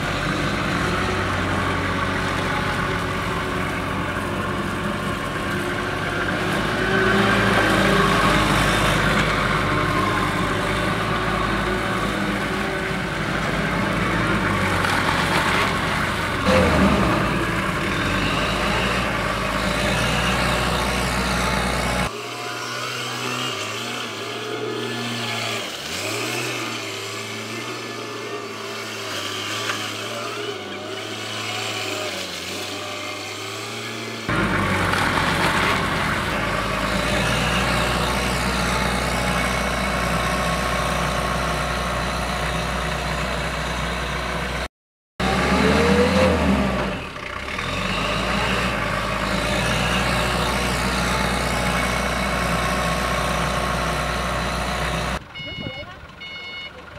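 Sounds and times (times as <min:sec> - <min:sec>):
forklift engine running and revving: 0:00.0 - 0:56.9.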